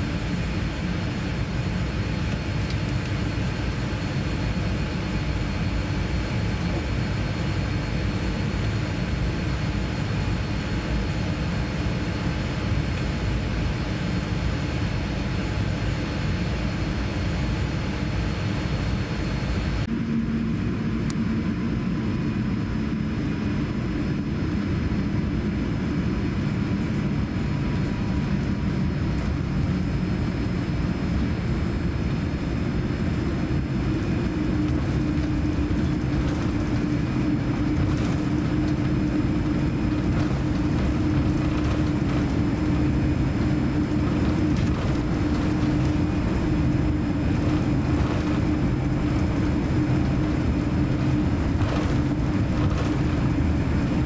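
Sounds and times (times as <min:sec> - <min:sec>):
aircraft engine rumble: 0:00.0 - 0:54.0.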